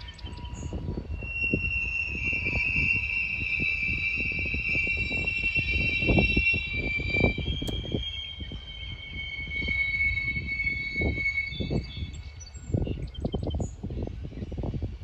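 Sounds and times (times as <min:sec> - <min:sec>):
high-pitched squeal: 0:00.0 - 0:13.4.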